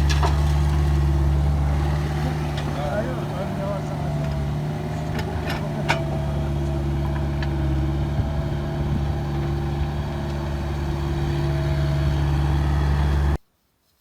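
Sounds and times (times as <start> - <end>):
diesel engine running: 0.0 - 13.4.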